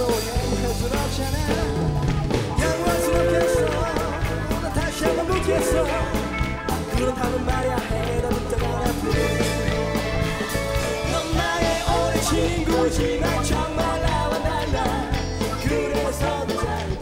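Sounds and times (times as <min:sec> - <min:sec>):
pop-rock band playing: 0:00.0 - 0:17.0.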